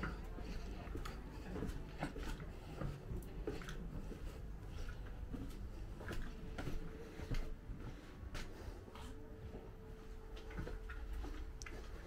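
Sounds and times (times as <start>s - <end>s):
footsteps on brick paving: 0.0s - 12.0s.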